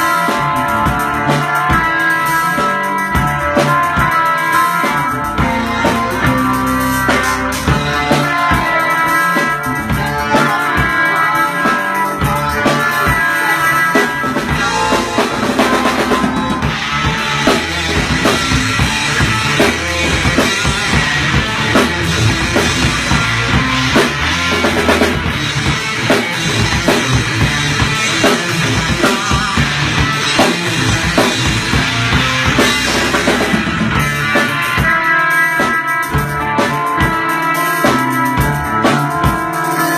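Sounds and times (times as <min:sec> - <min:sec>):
rock instrumental music: 0:00.0 - 0:39.9.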